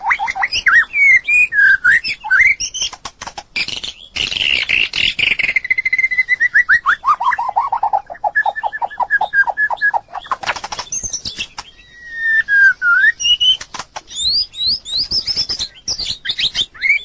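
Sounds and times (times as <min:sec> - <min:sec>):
bird singing whistled phrases: 0:00.0 - 0:02.9, 0:03.6 - 0:17.0.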